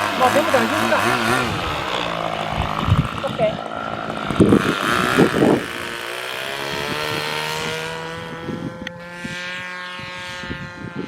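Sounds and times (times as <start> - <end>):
model airplane motor droning: 0.0 - 11.0.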